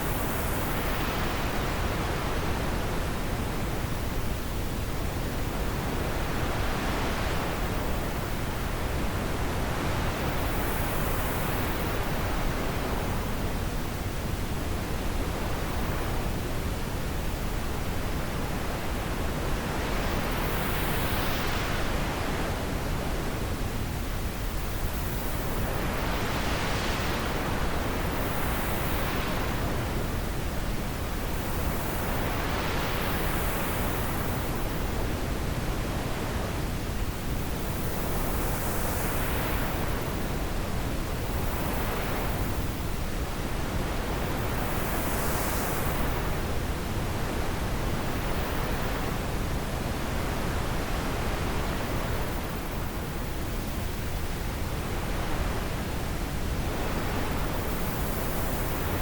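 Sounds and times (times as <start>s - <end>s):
wind blowing in gusts: 0.0s - 59.0s.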